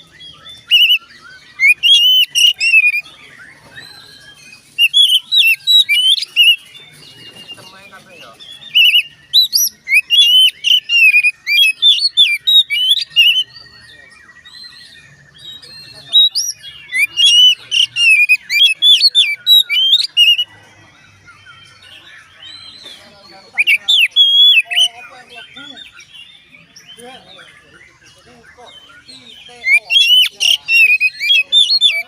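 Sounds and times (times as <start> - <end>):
bird singing whistled notes: 0.0 - 32.0.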